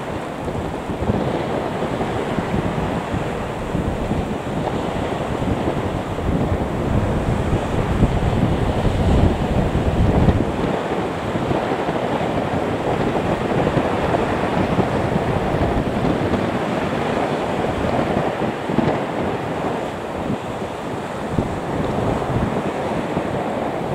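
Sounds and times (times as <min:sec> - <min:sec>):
jet engines at taxi power: 0:00.0 - 0:23.9
wind buffeting microphone: 0:00.0 - 0:23.9.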